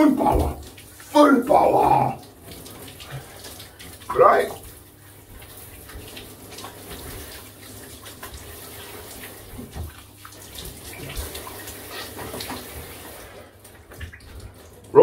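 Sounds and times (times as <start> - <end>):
shower spray splashing on tiles: 0.0 - 14.9.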